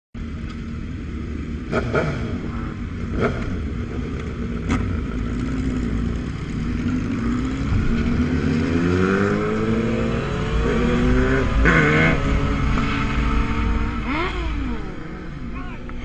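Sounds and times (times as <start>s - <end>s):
motorcycle engine revving: 0.2s - 16.0s.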